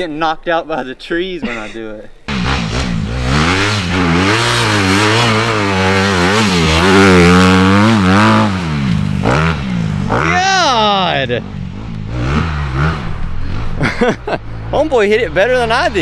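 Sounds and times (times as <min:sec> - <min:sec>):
dirt bike engine revving: 0:02.3 - 0:16.0.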